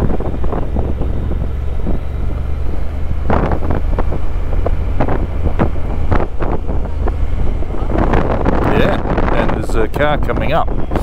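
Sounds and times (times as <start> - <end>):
motorcycle engine drone: 0.0 - 11.0
wind buffeting microphone: 0.0 - 11.0.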